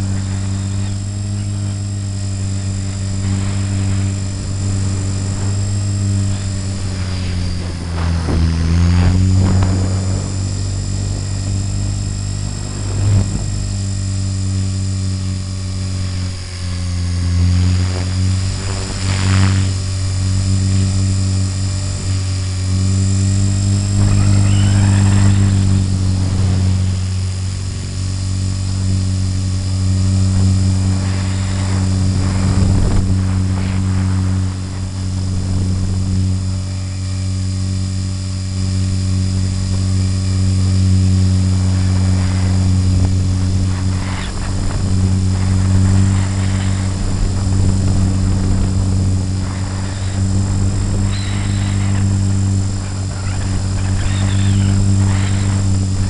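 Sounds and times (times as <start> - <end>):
rc helicopter rotor whirring: 0.0 - 56.0.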